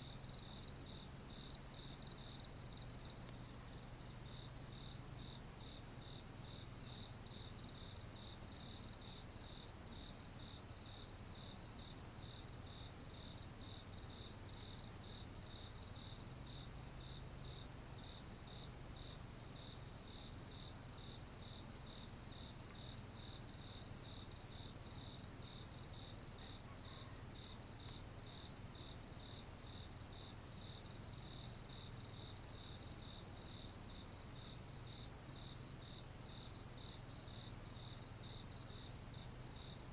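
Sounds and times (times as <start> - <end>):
insects chirping: 0.0 - 39.9
quicker higher insect chirping: 0.0 - 39.9.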